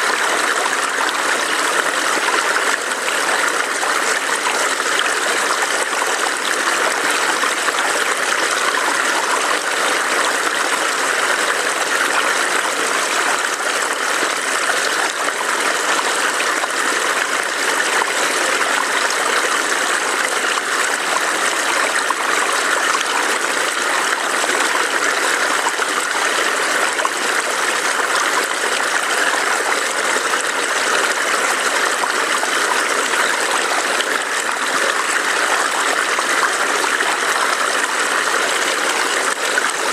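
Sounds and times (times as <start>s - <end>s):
stream burbling over stones: 0.0s - 39.9s.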